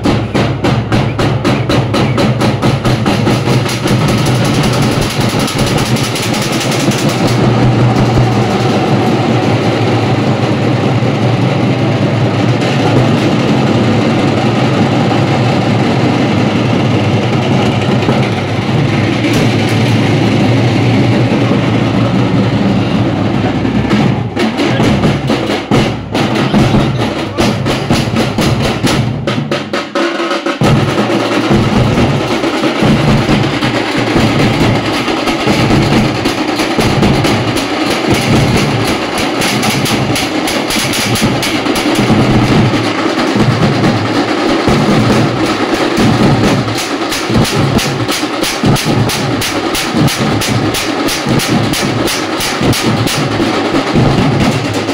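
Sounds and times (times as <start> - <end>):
bass and snare drum band playing: 0.0 - 54.9.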